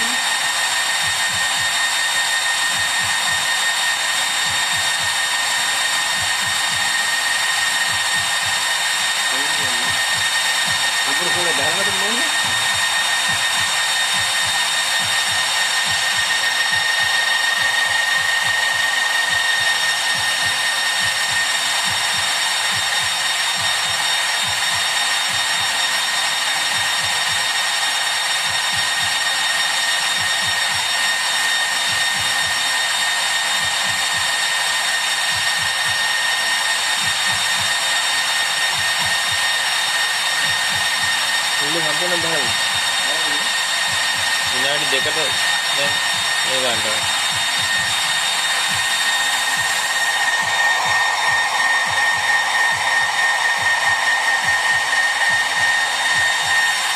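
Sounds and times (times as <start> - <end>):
cooling fans whirring: 0.0 - 56.9.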